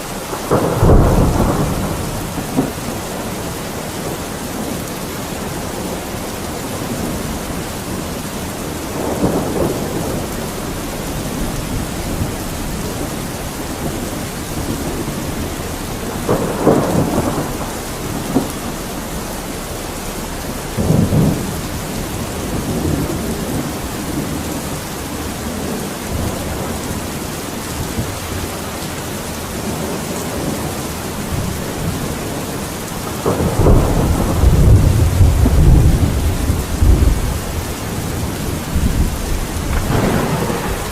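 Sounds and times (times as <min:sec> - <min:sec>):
steady rain hiss: 0:00.0 - 0:40.9
low rumbles: 0:00.1 - 0:27.1, 0:31.1 - 0:40.9.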